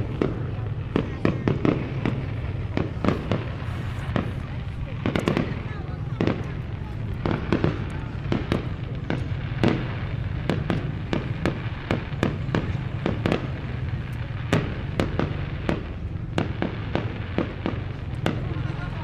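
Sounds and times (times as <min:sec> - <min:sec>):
continuous low rumble: 0:00.0 - 0:19.0
fireworks bangs: 0:00.0 - 0:19.0.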